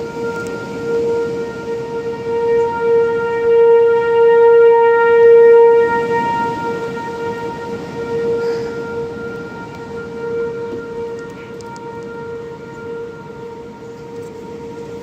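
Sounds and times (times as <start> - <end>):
tornado warning siren wailing: 0.0 - 15.0.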